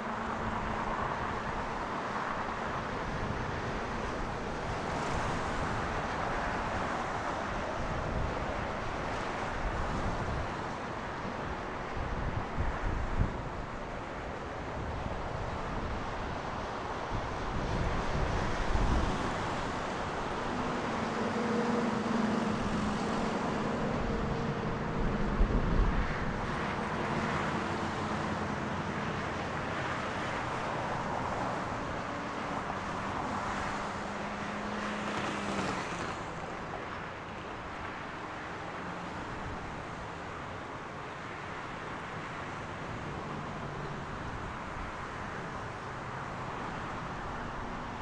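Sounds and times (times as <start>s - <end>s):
wind rumbling on microphone: 0.1s - 40.7s.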